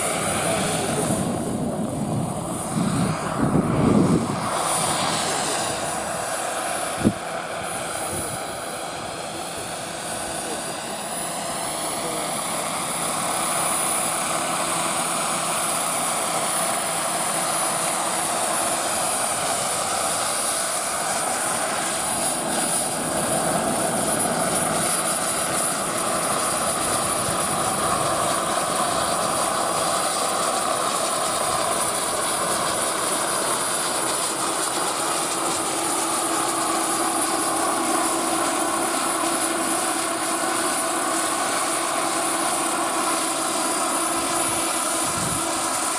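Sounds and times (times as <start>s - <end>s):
model helicopter whine: 0.0s - 45.9s.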